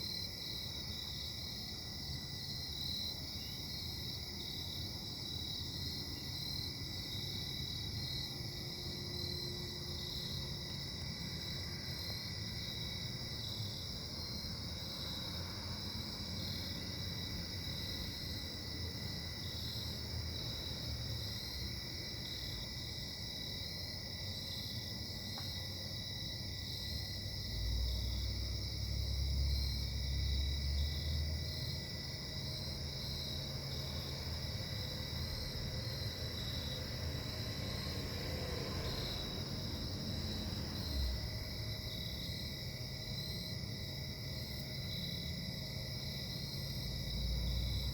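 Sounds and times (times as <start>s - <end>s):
crickets chirping: 0.0s - 47.9s.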